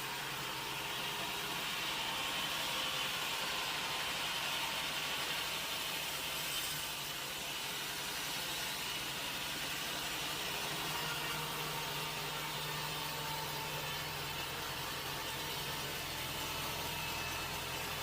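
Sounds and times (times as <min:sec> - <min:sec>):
motor hum: 0:00.0 - 0:18.0.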